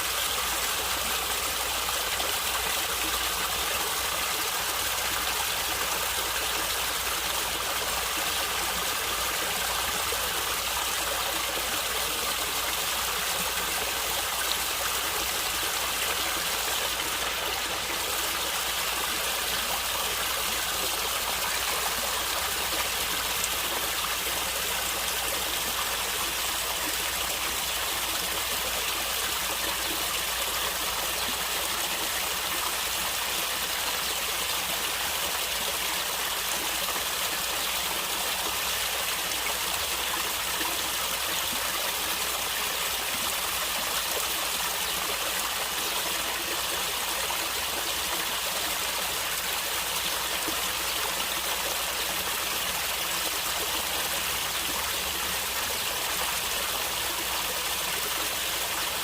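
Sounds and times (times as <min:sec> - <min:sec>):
stream water gurgling over rocks: 0:00.0 - 0:59.0.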